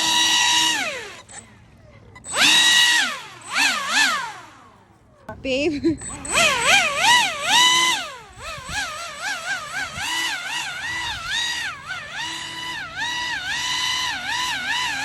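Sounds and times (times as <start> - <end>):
electric motor and fan whining: 0.0 - 15.0.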